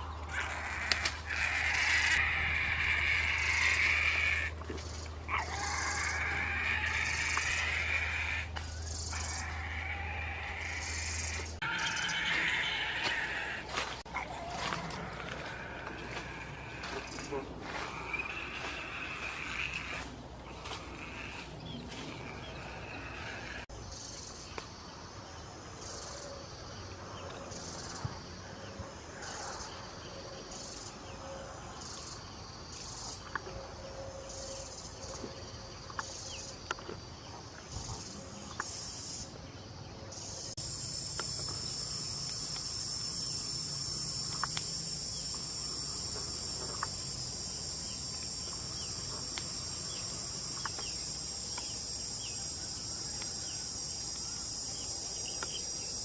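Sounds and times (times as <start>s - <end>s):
continuous high insect buzz: 0.0s - 56.0s
insects chirping: 0.0s - 56.0s.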